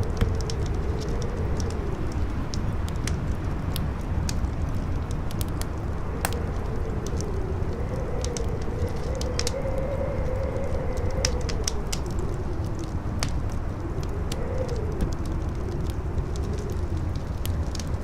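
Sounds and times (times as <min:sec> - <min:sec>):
campfire crackling and popping: 0:00.0 - 0:18.0
strong wind howling: 0:00.0 - 0:18.0.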